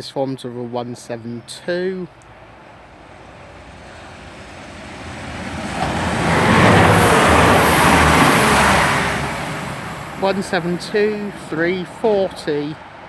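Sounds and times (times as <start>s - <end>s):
diesel train passing: 1.5s - 13.0s.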